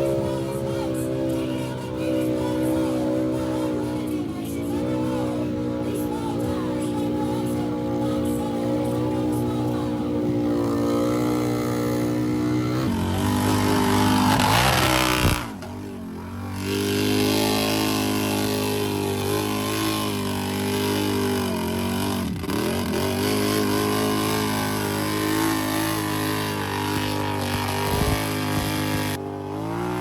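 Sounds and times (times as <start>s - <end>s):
racing engine revving high: 0.0s - 30.0s.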